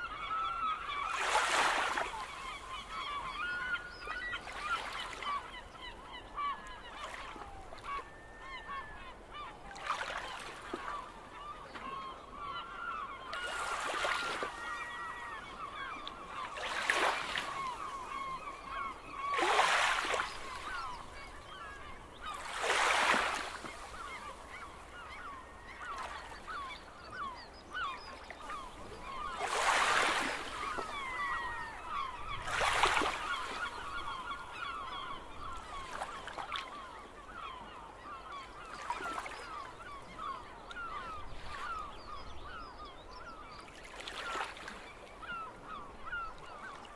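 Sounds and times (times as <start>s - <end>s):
gulls calling: 0.0s - 46.9s.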